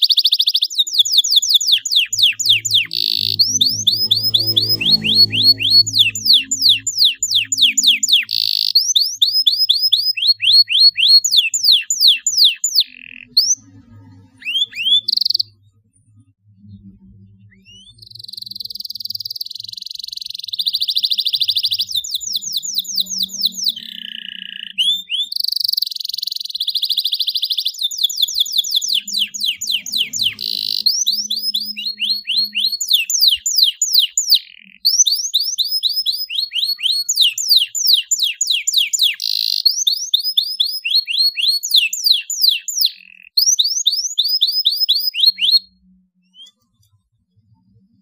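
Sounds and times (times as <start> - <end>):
canary singing: 0.0 - 15.7, 17.5 - 46.6.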